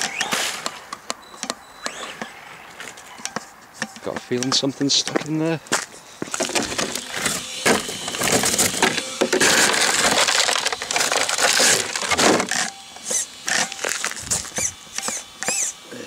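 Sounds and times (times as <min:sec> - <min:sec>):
twigs and grit crackling: 0:01.9 - 0:15.8.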